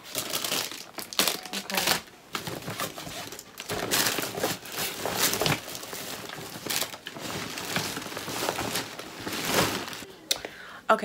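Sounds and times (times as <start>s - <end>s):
bag rustling and crinkling: 0.0s - 10.1s.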